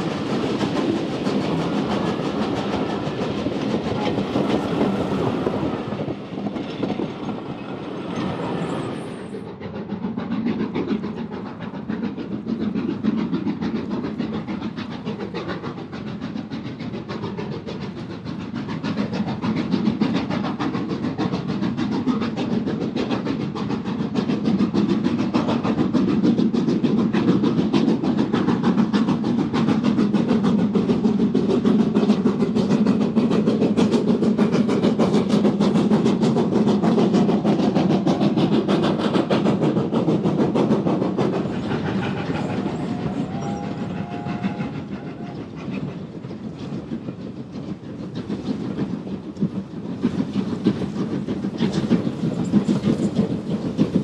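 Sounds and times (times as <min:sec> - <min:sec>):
steam hissing: 0:00.0 - 0:54.0
steam locomotive exhaust beat: 0:00.0 - 0:54.0
wheels on rails: 0:00.0 - 0:54.0.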